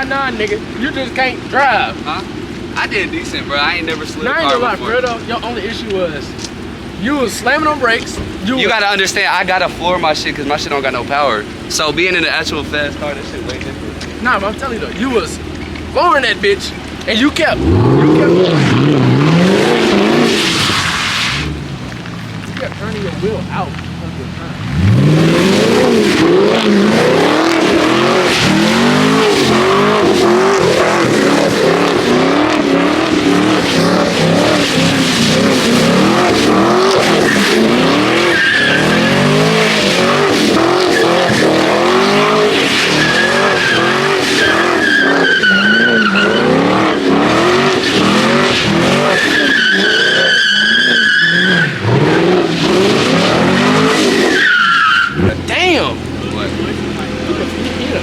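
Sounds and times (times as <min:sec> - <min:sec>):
car engine revving hard: 0:00.0 - 0:22.0, 0:22.8 - 0:58.0
tyres squealing: 0:00.0 - 0:58.0.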